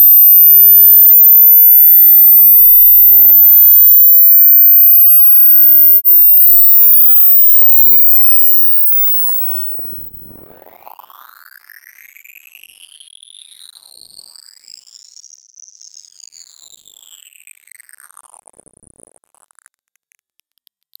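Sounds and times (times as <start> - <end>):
high sine test tone: 0.0 - 21.0
gliding whistles: 0.2 - 21.0.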